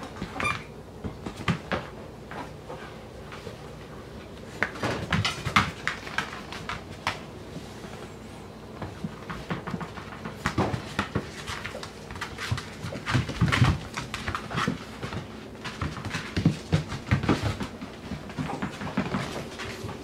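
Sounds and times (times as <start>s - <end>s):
puppies scuffling on floor: 0.0s - 20.0s.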